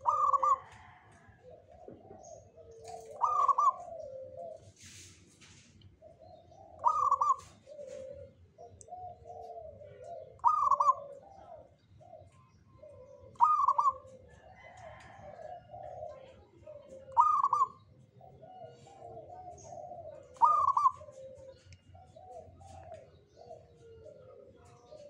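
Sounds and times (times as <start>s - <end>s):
dove cooing: 0.0s - 5.3s, 5.9s - 25.0s.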